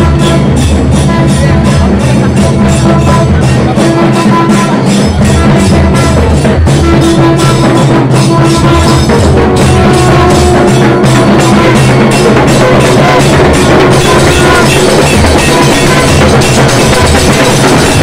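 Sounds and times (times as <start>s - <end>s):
barrel drums beaten with sticks: 0.0s - 18.0s
wind instruments holding notes: 0.0s - 18.0s.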